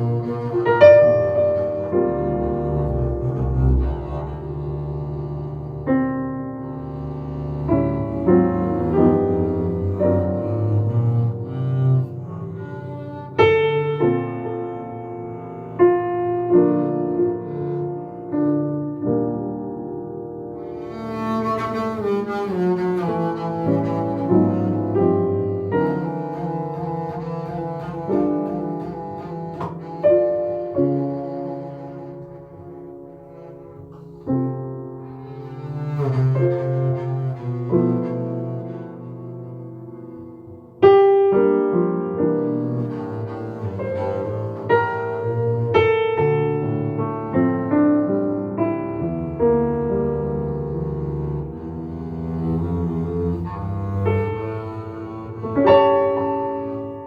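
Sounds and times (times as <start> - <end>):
double bass notes: 0.0 - 40.7, 41.7 - 57.0
piano chords and melody: 0.0 - 57.0.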